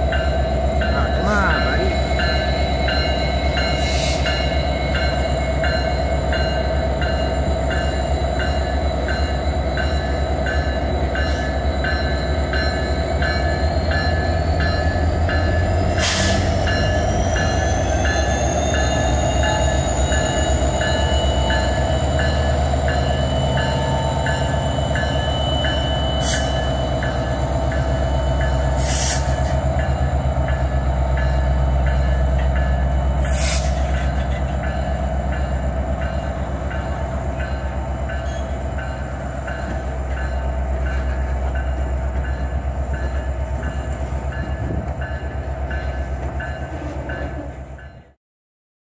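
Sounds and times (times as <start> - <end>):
diesel locomotive engines rumbling: 0.0 - 48.2.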